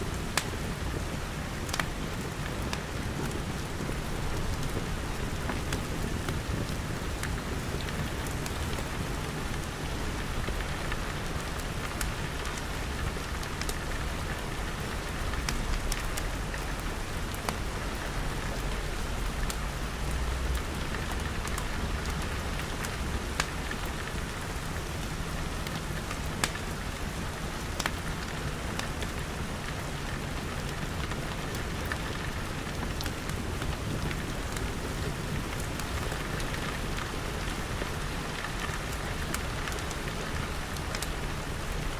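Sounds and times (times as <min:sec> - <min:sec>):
rain pattering on glass: 0:00.1 - 0:41.9
wood fire crackling: 0:00.1 - 0:41.9.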